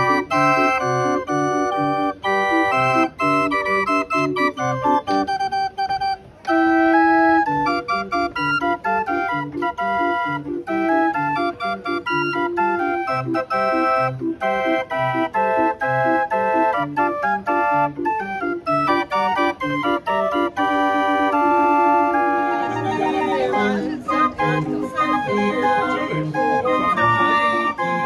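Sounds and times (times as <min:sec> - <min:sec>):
barrel organ playing a tune: 0:00.0 - 0:28.0.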